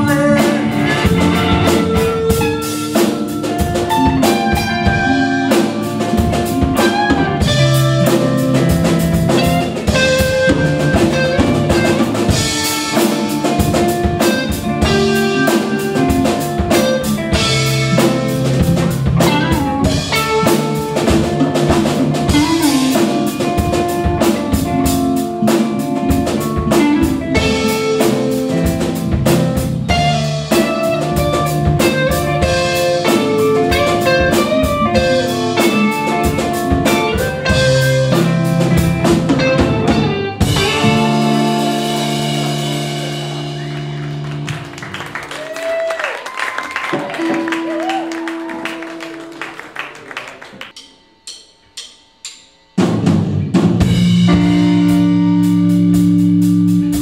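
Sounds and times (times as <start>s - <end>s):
electric bass: 0.0s - 45.8s, 52.8s - 57.0s
electric guitars: 0.0s - 50.7s, 52.9s - 57.0s
drum kit beats: 0.0s - 57.0s.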